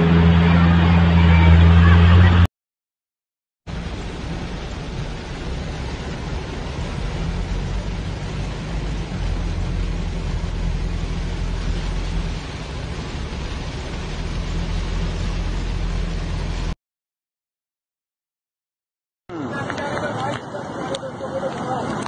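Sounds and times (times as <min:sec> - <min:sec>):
vehicle wind and road noise: 0:00.0 - 0:02.5, 0:03.7 - 0:16.8, 0:19.3 - 0:22.0.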